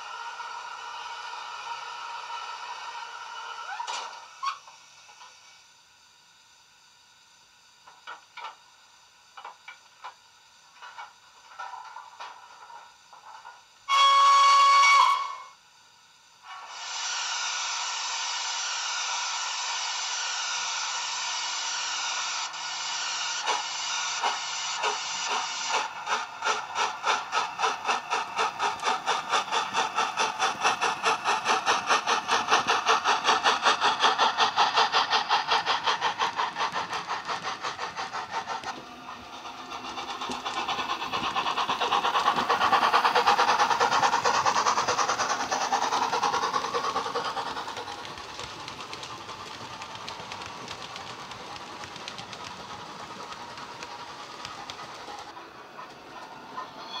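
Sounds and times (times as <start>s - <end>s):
steam hiss: 0.0s - 57.0s
steam locomotive exhaust chuffs: 0.0s - 57.0s.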